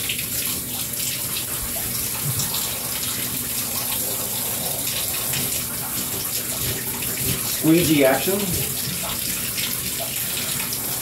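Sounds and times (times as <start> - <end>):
shower sprayer water into bathtub: 0.0 - 11.0.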